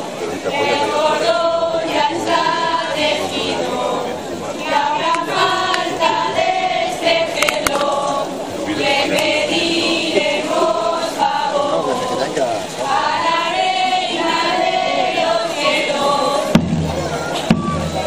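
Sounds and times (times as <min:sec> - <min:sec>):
group singing folk song: 0:00.0 - 0:18.0.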